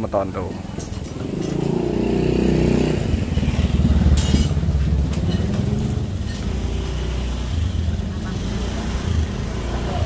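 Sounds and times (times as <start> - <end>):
engine running: 0.7 - 10.0.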